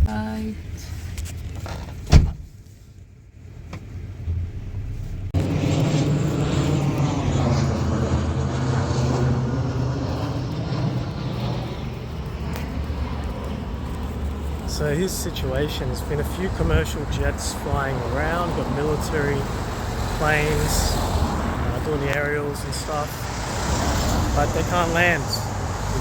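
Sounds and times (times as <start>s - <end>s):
engine drone: 3.4s - 26.0s.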